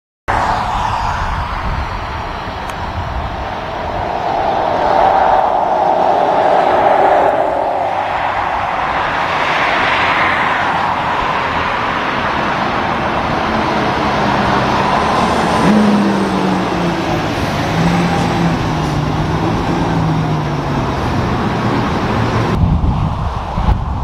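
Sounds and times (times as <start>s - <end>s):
steady traffic and tyre noise: 0.3s - 24.0s.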